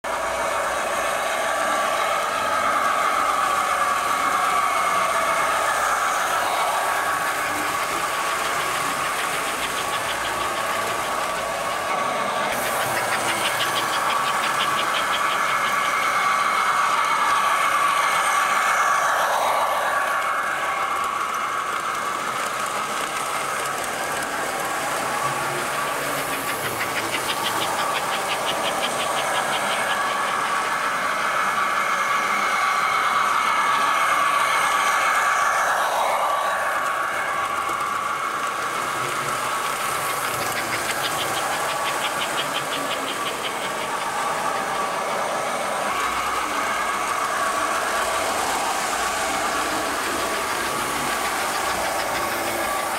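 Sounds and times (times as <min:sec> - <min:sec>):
toy train motors humming: 0:00.0 - 0:52.9
wheels rolling on rails: 0:00.1 - 0:52.9
rapid clicking: 0:02.2 - 0:19.6, 0:20.5 - 0:32.5, 0:33.2 - 0:52.9.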